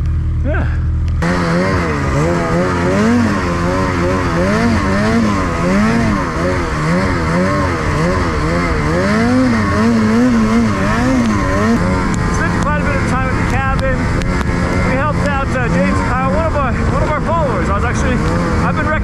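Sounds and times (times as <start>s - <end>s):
snowmobile engine revving: 0.3s - 19.0s
steady rushing noise: 1.1s - 19.0s.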